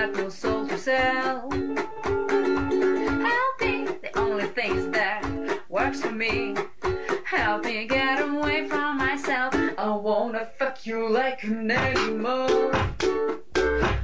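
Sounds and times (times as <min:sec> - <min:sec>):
woman singing: 0:00.0 - 0:13.0
ukulele plucked: 0:00.0 - 0:14.0.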